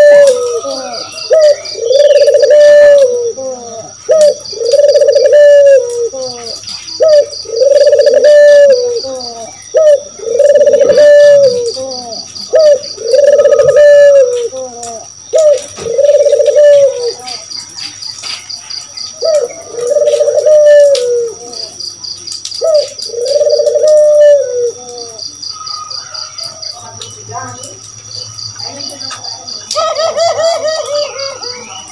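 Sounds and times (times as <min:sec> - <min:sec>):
doves cooing: 0:00.0 - 0:21.8, 0:22.6 - 0:26.8, 0:28.6 - 0:31.9.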